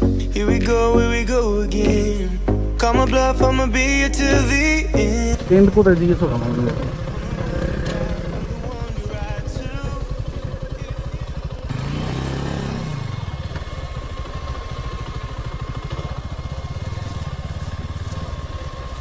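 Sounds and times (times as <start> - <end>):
motorcycle engine running at low speed: 0.0 - 19.0.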